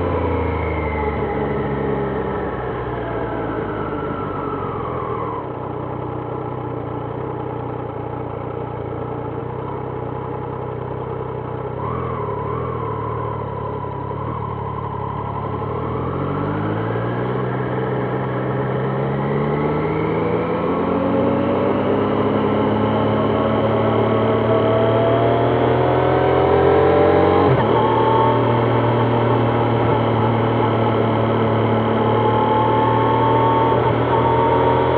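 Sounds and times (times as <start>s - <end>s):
motorcycle engine slowing and revving: 0.0s - 34.9s.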